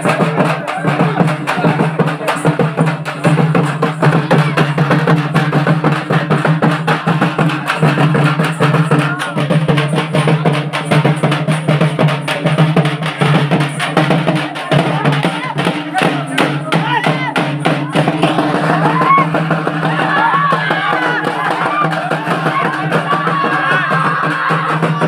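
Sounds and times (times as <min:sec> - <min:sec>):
frame drums beaten fast: 0:00.0 - 0:25.0.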